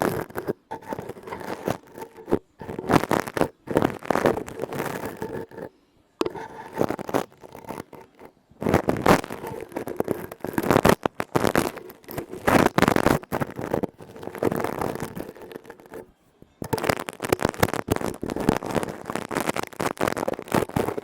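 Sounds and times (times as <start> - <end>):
scratching and scraping on object: 0.0 - 21.0.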